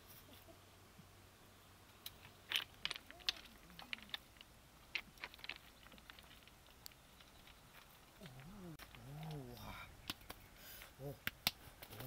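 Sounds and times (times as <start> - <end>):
sharp clicks and crunches: 2.0 - 12.0.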